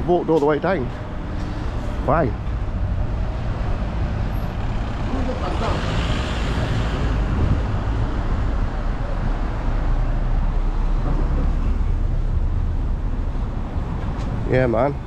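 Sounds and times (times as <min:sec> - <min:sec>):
cars driving past: 0:00.2 - 0:15.0.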